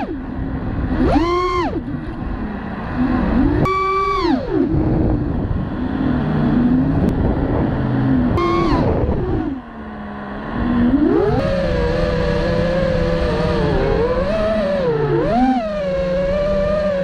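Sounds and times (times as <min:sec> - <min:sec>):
quadcopter motors whining: 0:00.0 - 0:17.0
wind noise: 0:00.0 - 0:17.0.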